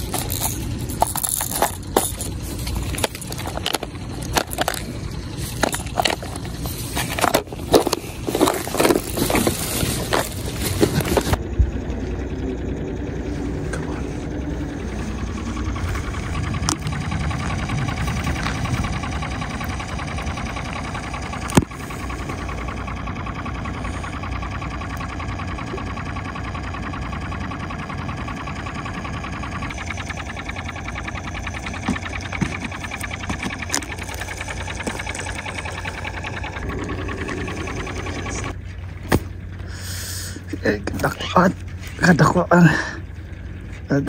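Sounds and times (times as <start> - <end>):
small engine running: 0.0 - 44.0.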